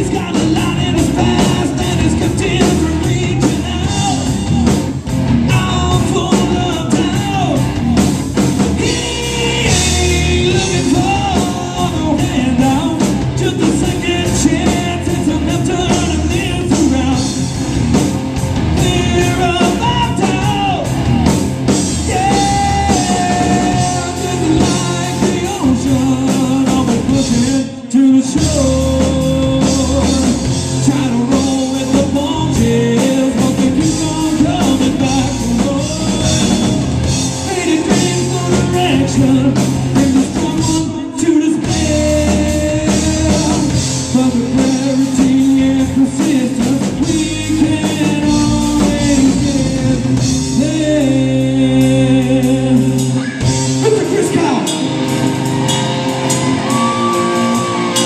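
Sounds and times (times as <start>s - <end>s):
man singing: 0.0s - 17.5s, 18.6s - 54.9s
hard rock band playing: 0.0s - 58.0s.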